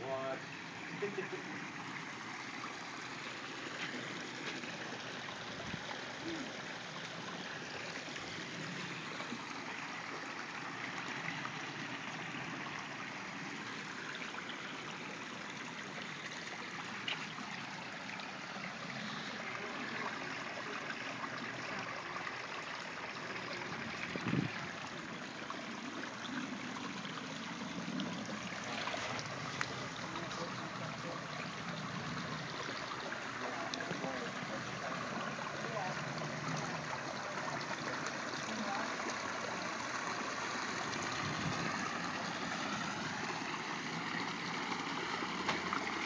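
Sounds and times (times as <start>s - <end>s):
water trickling over rocks: 0.0s - 46.0s.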